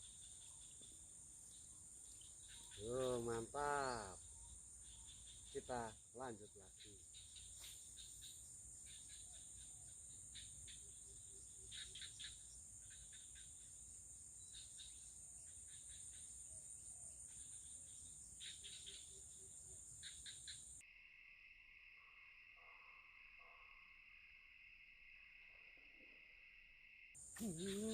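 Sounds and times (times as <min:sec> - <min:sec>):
insect chirping bursts: 0:00.0 - 0:27.9
insect chorus buzzing: 0:00.0 - 0:27.9.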